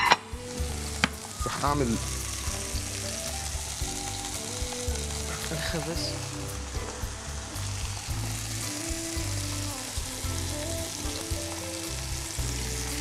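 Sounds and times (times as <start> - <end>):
chicken sizzling in a hot pan: 0.0 - 13.0
quiet background music: 0.0 - 13.0.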